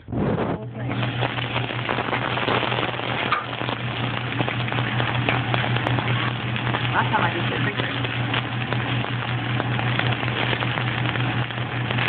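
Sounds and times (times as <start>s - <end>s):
steady low hum: 0.0s - 12.0s
food sizzling on a griddle: 0.9s - 12.0s.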